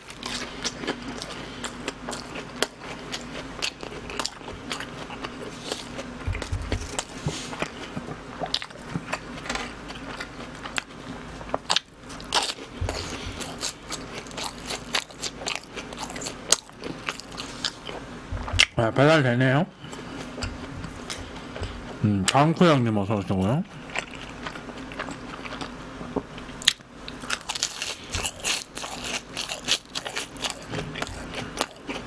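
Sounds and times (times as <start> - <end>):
chewing and biting: 0.0 - 18.7, 23.8 - 32.0.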